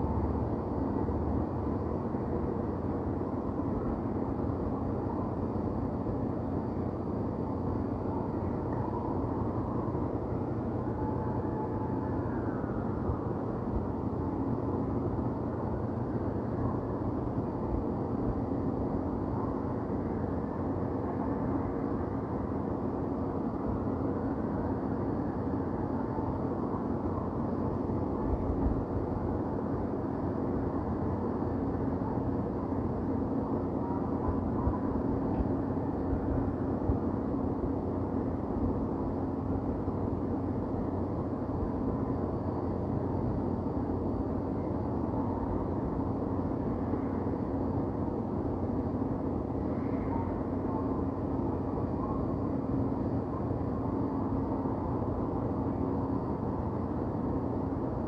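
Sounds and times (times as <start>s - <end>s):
faint continuous hum: 0.0s - 58.0s.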